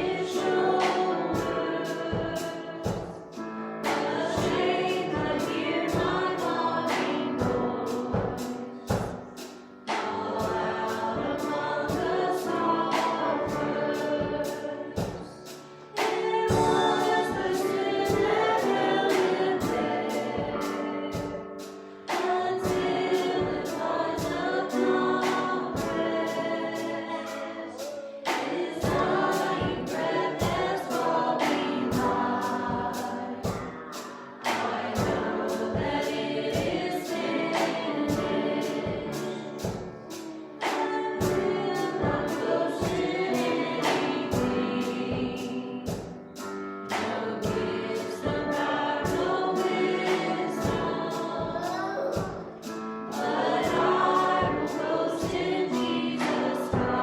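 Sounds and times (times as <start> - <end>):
instrumental accompaniment: 0.0 - 57.0
voices singing together: 0.0 - 57.0
steady beat: 3.8 - 21.4, 22.1 - 46.2, 46.9 - 57.0.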